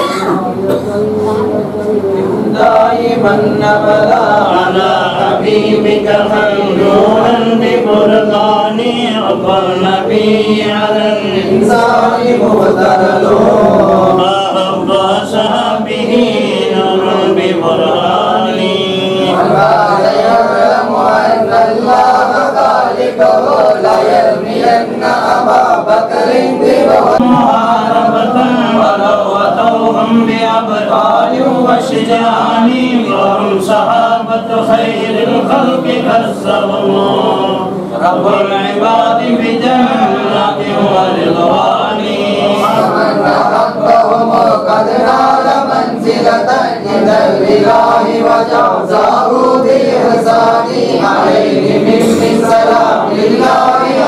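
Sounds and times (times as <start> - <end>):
men chanting together: 2.3 - 54.0.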